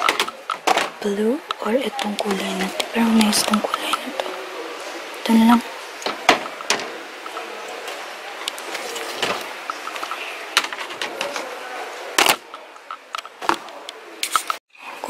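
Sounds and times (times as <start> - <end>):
shop background noise: 0.0 - 15.0.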